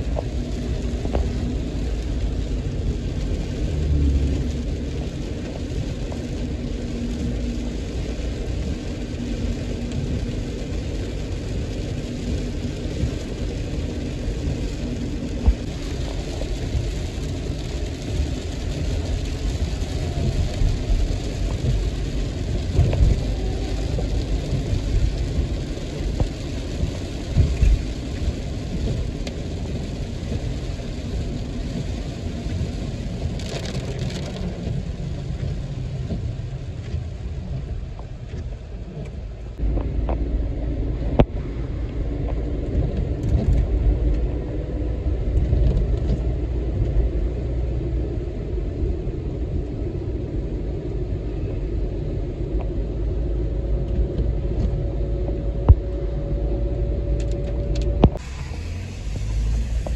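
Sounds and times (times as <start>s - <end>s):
car road and engine rumble: 0.0s - 59.9s
rain on windshield: 0.0s - 59.9s.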